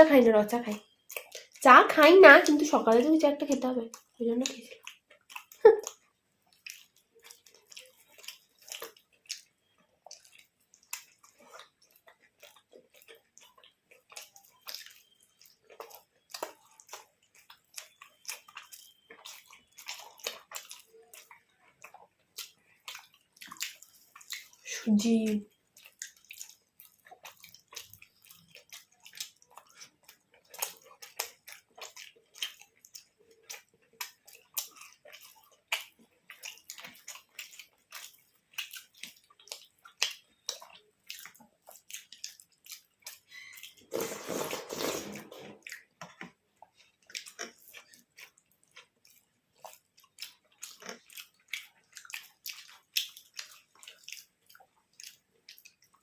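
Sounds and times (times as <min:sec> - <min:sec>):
wet chewing and mouth clicks: 0:00.2 - 0:56.0.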